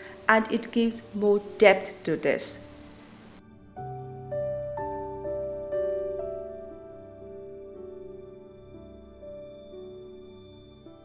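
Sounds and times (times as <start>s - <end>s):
soft new-age music: 0.0s - 11.0s.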